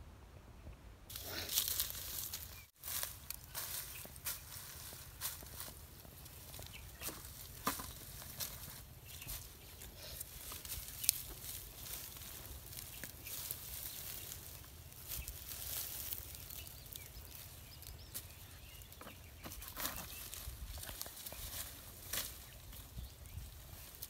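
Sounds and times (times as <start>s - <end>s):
dry straw rustling and crackling: 1.1s - 24.0s.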